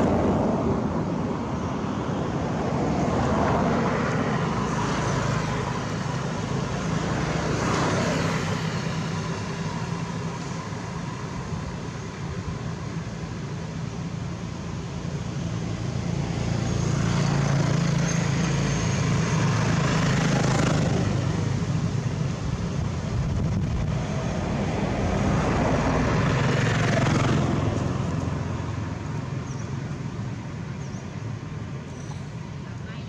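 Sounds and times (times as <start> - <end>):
low engine hum: 0.0 - 33.0
vehicles passing rushing noise: 0.0 - 33.0.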